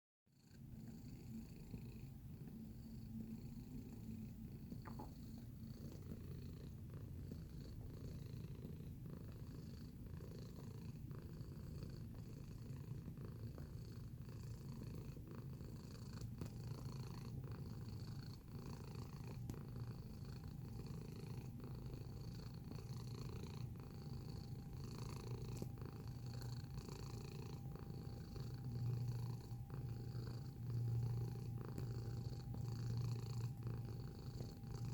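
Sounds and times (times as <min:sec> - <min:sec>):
cat purring: 0:00.3 - 0:34.9.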